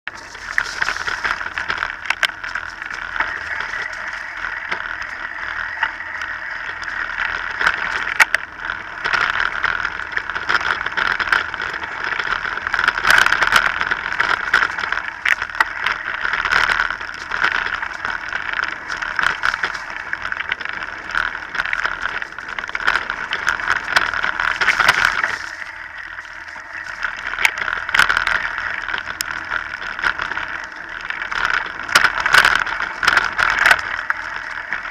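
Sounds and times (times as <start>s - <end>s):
bike clicks and rattles: 0.1s - 34.9s
bike rolling over dirt trail: 0.1s - 34.9s.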